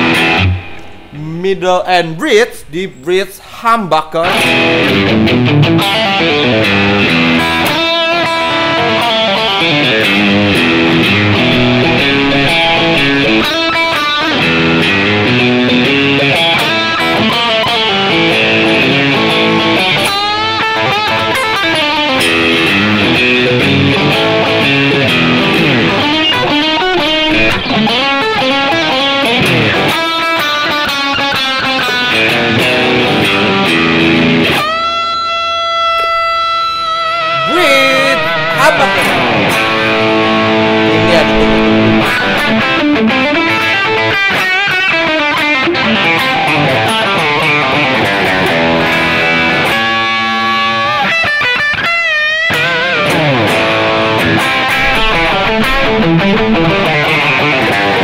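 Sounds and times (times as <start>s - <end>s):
overdriven electric guitar: 0.0s - 1.2s, 4.2s - 58.0s.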